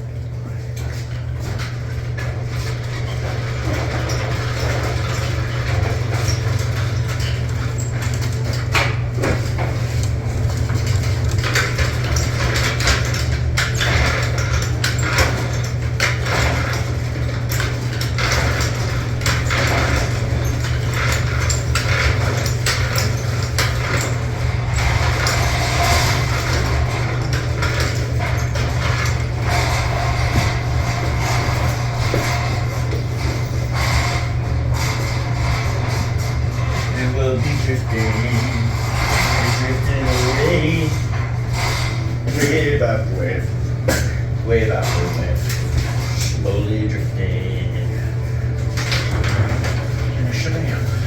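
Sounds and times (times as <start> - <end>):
machinery humming: 0.0 - 51.0.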